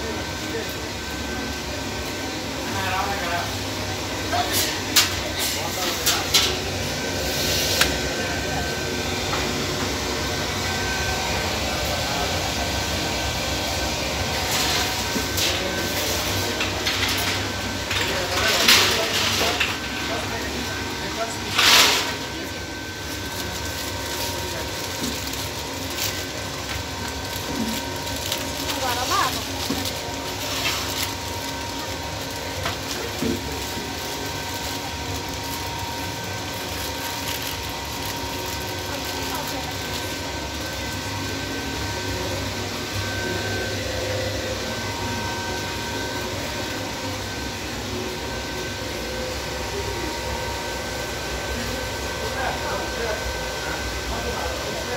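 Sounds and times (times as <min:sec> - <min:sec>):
oven fan humming: 0:00.0 - 0:54.9.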